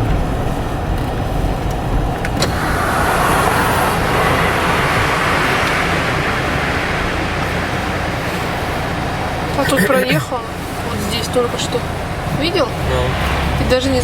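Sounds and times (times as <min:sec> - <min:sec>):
engine and road rumble: 0:00.0 - 0:14.0
hiss of air and road noise: 0:00.0 - 0:14.0.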